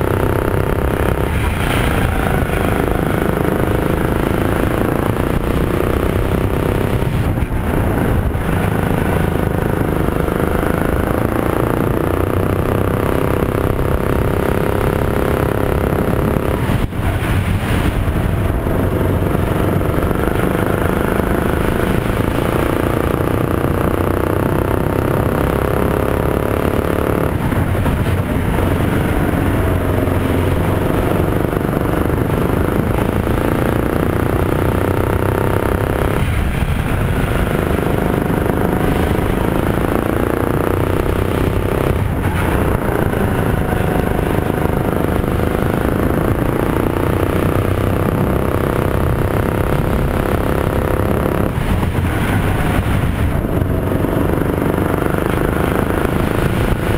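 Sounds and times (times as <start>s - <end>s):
kart engine revving hard: 0.0s - 56.9s.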